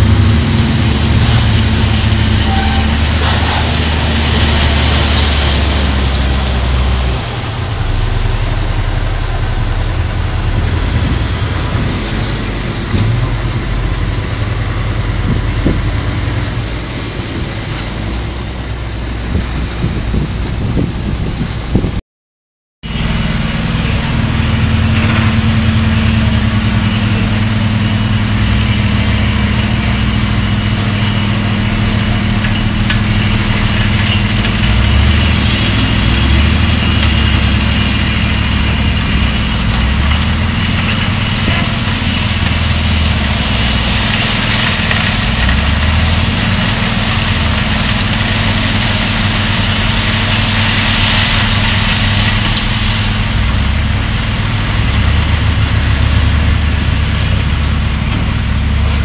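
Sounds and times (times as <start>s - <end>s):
hiss of sliding gravel: 0.0s - 12.9s, 23.2s - 59.0s
diesel truck engine running: 0.0s - 22.0s, 22.8s - 59.0s.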